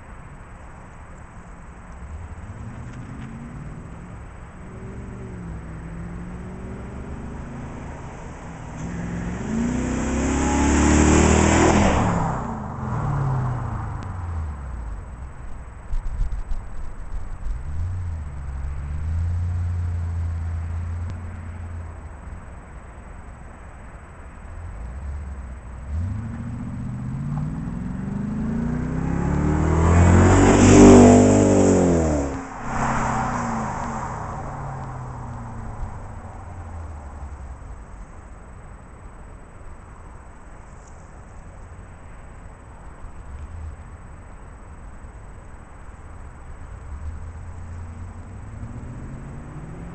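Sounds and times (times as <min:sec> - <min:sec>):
car engine through exhaust: 0:00.0 - 0:49.9.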